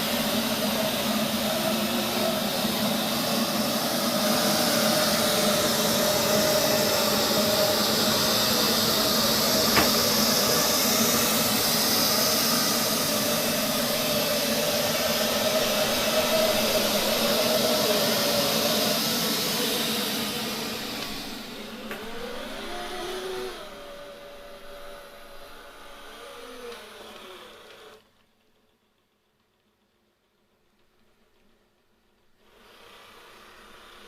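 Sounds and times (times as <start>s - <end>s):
robot vacuum cleaner whirring: 0.0s - 28.0s, 32.4s - 34.0s.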